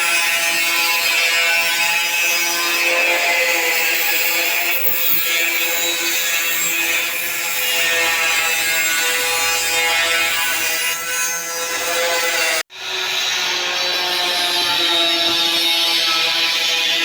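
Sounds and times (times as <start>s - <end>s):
power tool whining and grinding: 0.0s - 17.0s.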